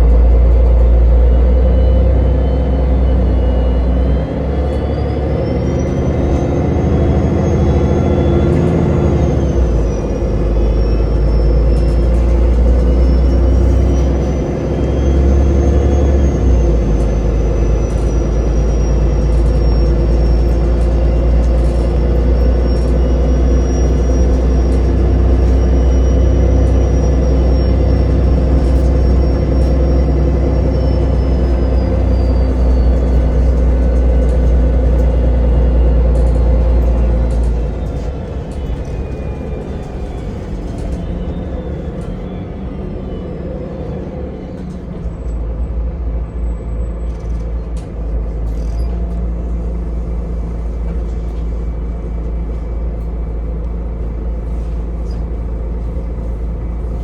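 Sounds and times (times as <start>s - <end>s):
transit vehicle rumble and whine: 0.0s - 57.0s.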